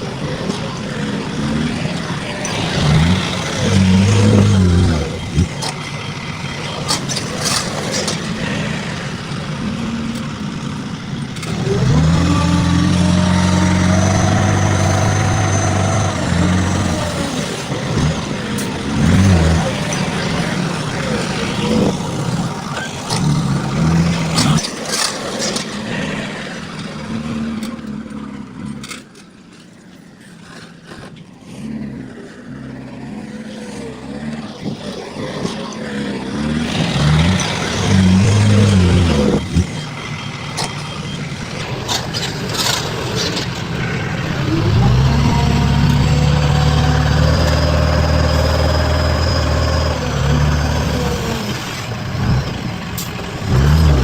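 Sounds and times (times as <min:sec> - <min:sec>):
construction machinery revving: 0:00.0 - 0:54.0.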